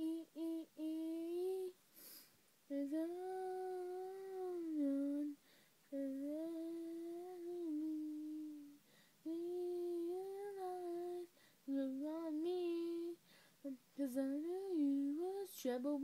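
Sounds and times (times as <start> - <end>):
girl humming a melody: 0.0 - 16.0.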